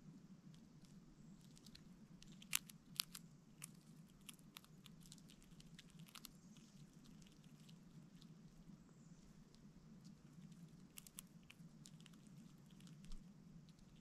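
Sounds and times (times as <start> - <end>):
squirrel cracking seeds: 0.5 - 14.0.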